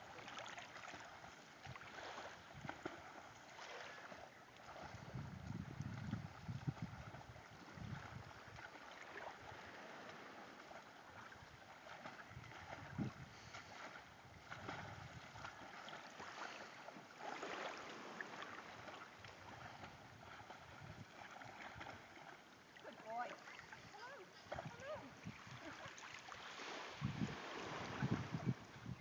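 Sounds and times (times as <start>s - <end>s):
water splashing and lapping: 0.0s - 29.0s.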